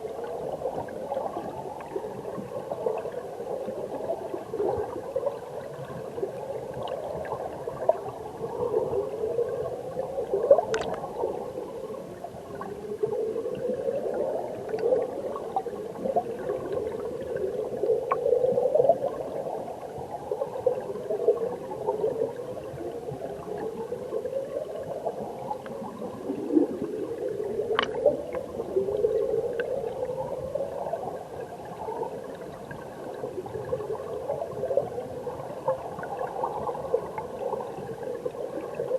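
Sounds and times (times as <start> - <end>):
underwater stream current gurgling: 0.0 - 38.9.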